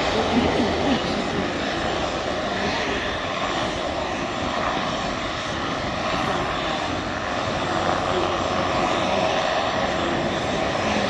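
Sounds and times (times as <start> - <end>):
turboprop engine running: 0.0 - 11.0.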